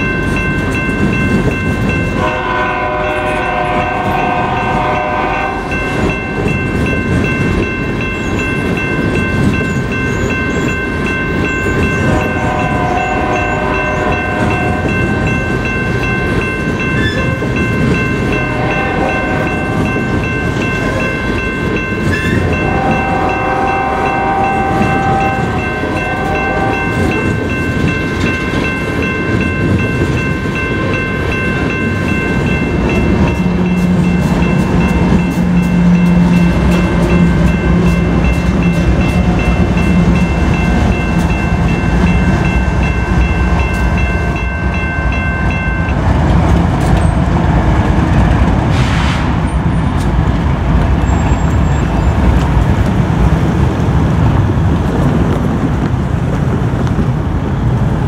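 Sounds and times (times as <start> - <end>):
diesel locomotives passing: 0.0 - 58.0
freight train wheels rumbling: 0.0 - 58.0.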